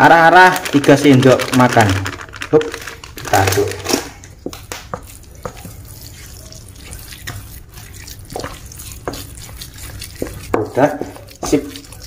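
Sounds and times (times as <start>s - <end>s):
spatula stirring mash in metal bowl: 0.0s - 12.0s.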